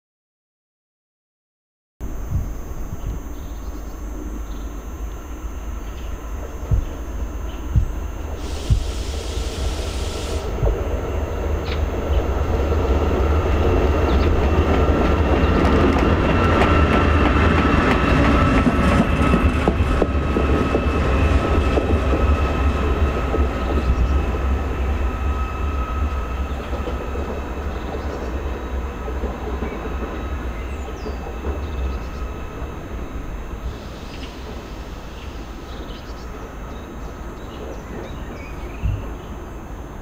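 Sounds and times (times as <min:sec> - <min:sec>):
locomotive rumble and whine: 0:02.0 - 0:40.0.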